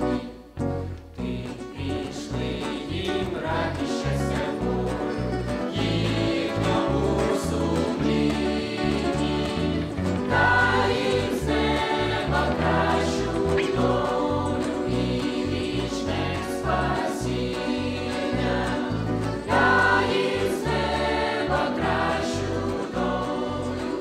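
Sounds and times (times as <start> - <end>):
mixed choir singing a hymn: 0.0 - 0.4, 1.2 - 24.0
electric bass guitar notes: 0.0 - 24.0
guitar accompaniment: 0.0 - 24.0.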